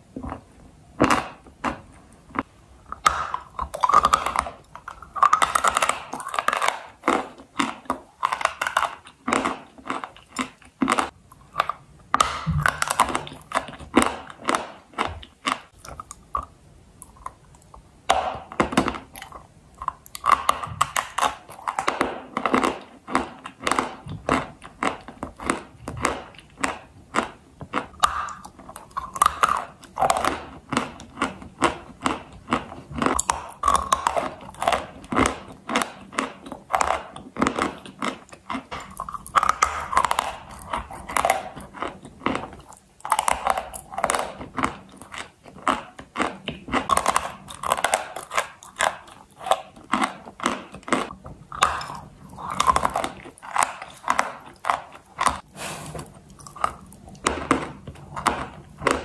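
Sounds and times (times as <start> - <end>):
chewing crispy chalk: 1.0 - 59.0.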